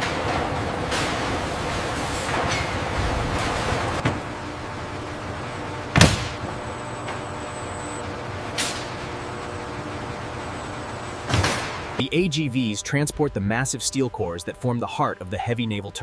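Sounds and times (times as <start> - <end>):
industrial machinery hum: 0.0 - 16.0.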